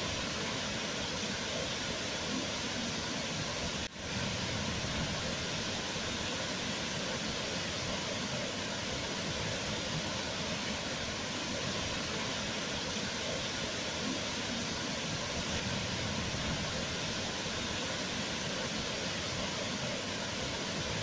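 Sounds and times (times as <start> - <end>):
waterfall rushing water: 0.0 - 21.0.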